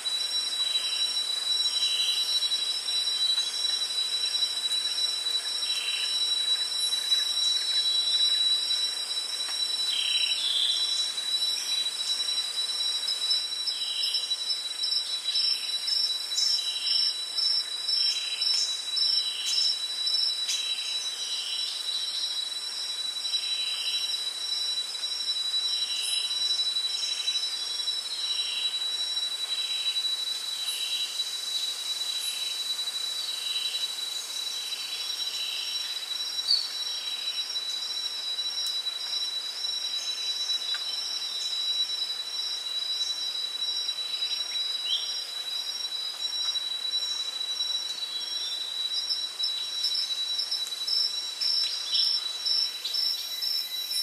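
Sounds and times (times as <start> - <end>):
insect pulsing trill: 0.0 - 54.0
insects droning: 0.0 - 54.0
short low insect call: 0.0 - 54.0.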